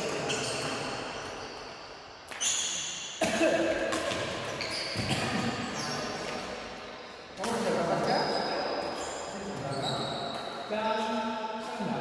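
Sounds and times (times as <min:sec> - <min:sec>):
shoes squeaking on court floor: 0:00.0 - 0:03.2, 0:03.9 - 0:06.7, 0:07.4 - 0:11.2.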